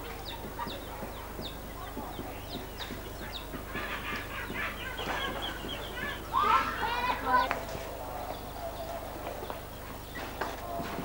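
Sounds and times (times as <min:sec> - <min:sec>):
birds chirping: 0:00.0 - 0:10.9
faint voices of people: 0:00.0 - 0:11.0.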